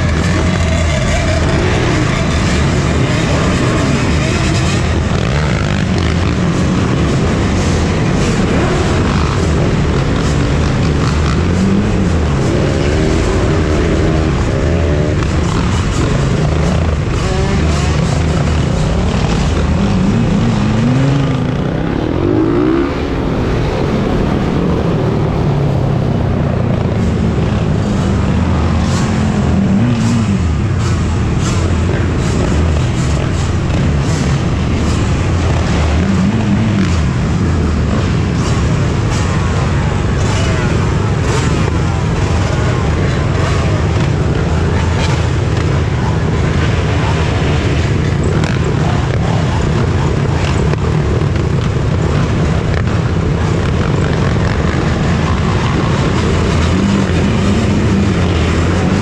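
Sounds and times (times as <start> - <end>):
dirt bike and quad engines revving: 0.0 - 59.0.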